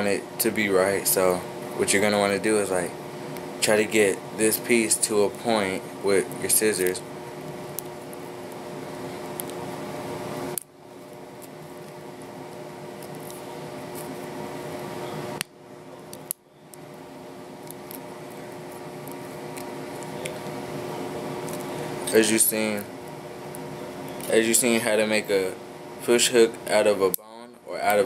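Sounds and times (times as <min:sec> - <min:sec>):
room noise hum: 0:00.0 - 0:28.0.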